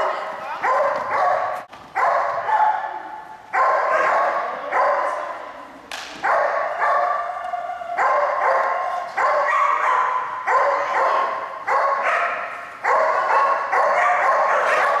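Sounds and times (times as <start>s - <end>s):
dog barking in echoing hall: 0.0s - 15.0s.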